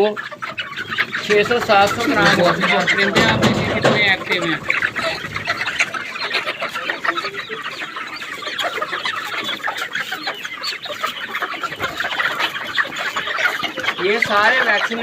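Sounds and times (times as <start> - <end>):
chicks peeping and clucking: 0.0 - 15.0.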